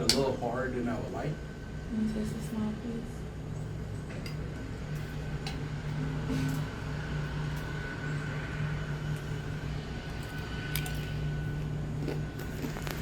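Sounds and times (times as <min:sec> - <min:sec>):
faint high whine: 0:00.0 - 0:13.0
mechanical hum: 0:00.0 - 0:13.0.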